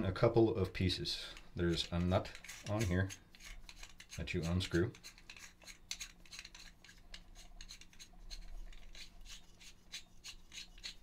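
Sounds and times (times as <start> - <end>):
metal nut ticking and scraping: 1.3 - 11.0.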